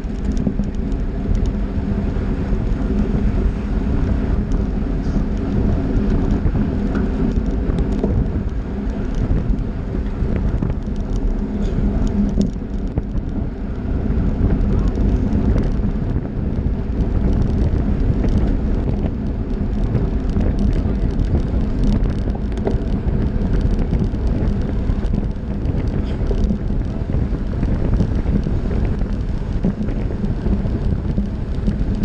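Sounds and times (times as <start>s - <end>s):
road and tyre noise: 0.0s - 32.0s
wind buffeting microphone: 0.0s - 32.0s.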